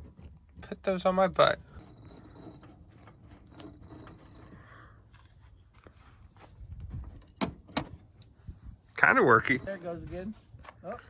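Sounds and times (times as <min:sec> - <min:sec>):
faint handling rustling: 0:01.4 - 0:11.0.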